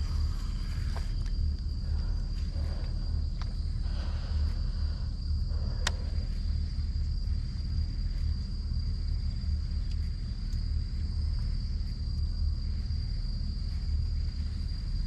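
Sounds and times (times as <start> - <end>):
high-pitched insect whine: 0.0 - 15.0
low uneven rumble: 0.0 - 15.0.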